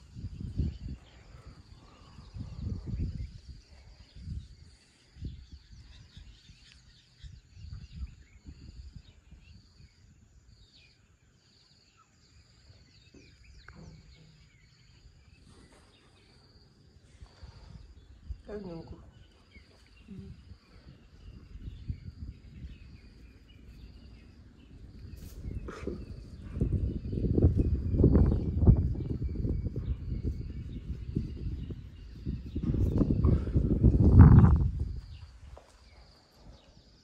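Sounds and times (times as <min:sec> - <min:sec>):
low rumbling on microphone: 0:00.0 - 0:10.7, 0:12.9 - 0:37.0
insects chirping: 0:00.0 - 0:37.0
bird chirps: 0:00.1 - 0:37.0.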